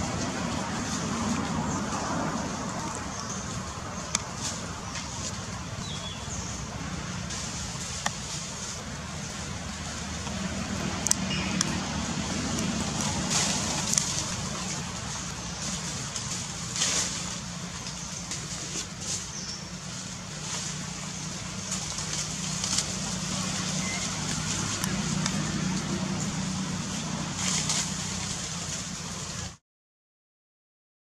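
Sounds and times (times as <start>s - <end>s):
dry leaves rustling and crackling: 0.0s - 29.6s
engine low hum: 0.0s - 29.6s.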